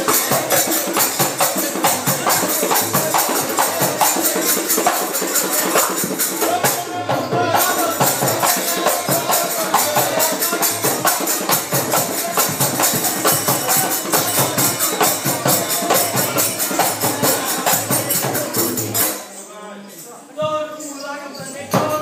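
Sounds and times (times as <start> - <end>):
fast percussion strokes: 0.0 - 19.4.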